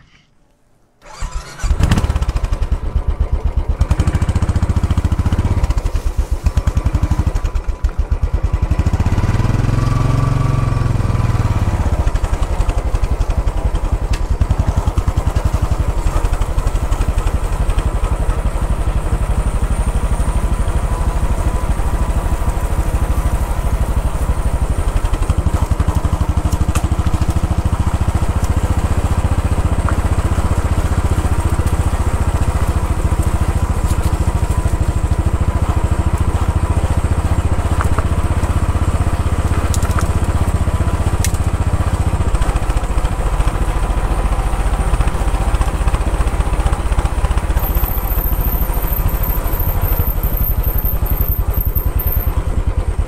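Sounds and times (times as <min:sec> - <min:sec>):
motorcycle engine running: 0:01.0 - 0:53.0.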